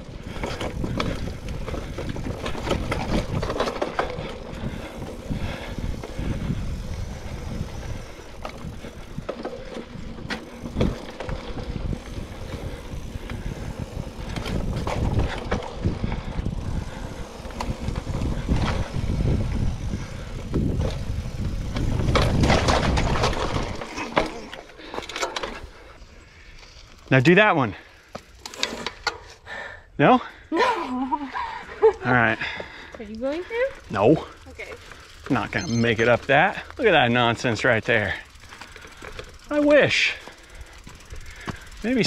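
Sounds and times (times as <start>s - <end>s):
bike knocking and rattling: 0.0s - 29.4s, 31.8s - 42.0s
low rumble of tyres and wind: 0.0s - 42.0s.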